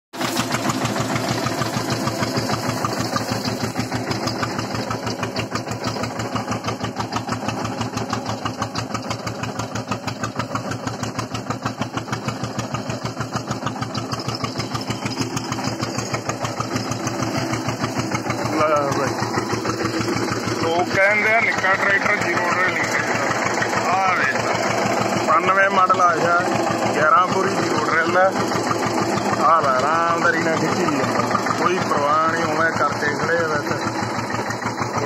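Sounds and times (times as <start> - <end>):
tractor diesel engine running: 0.1 - 35.0.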